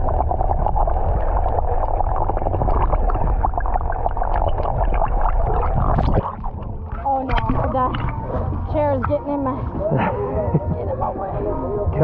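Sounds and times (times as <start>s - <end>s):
water gurgling: 0.0s - 9.9s
muffled underwater rumble: 0.0s - 12.0s.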